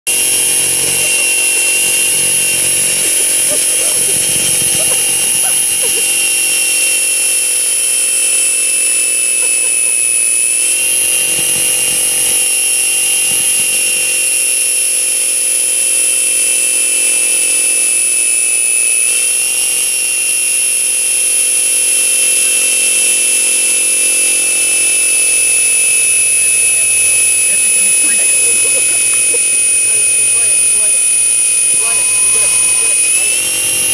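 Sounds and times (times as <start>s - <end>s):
electric motor high-pitched whine: 0.1s - 33.9s.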